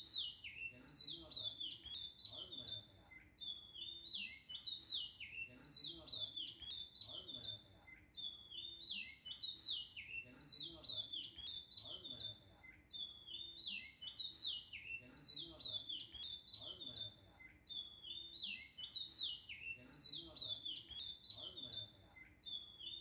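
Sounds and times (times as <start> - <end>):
bird chirping: 0.0 - 23.0
faint steady high tone: 0.0 - 23.0.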